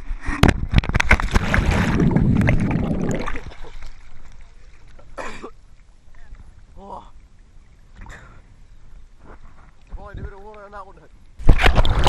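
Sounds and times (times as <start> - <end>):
water splashing and churning: 0.0 - 12.0.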